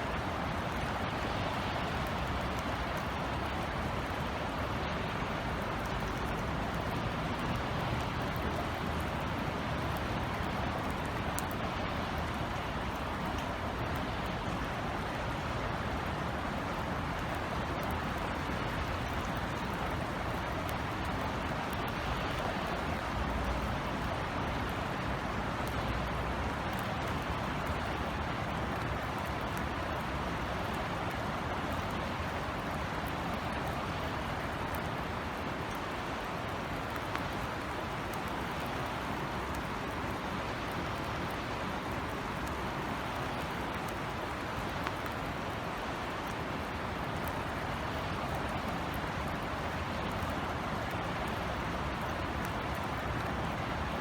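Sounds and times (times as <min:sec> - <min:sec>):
rain falling: 0:00.0 - 0:54.0
sharp drip ticks: 0:00.1 - 0:54.0.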